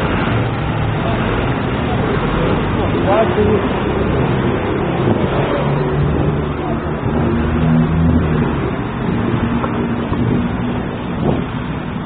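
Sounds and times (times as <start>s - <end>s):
continuous traffic rumble: 0.0s - 12.0s.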